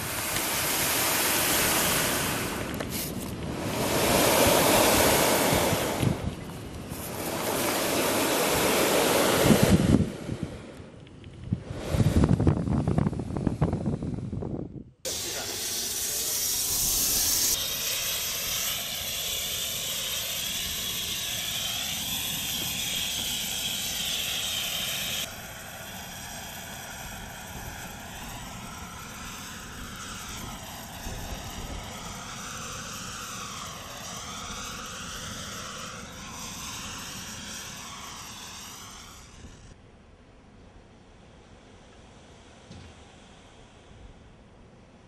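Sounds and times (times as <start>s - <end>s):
air rushing hiss through stone cracks: 0.0s - 12.7s, 15.1s - 39.8s
flare burning hiss: 0.0s - 14.0s, 15.1s - 39.8s.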